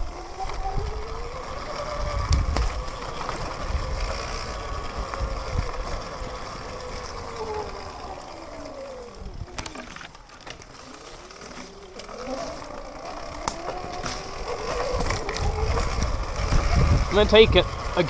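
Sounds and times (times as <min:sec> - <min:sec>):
electric dirt bike motor whining: 0:00.0 - 0:18.0.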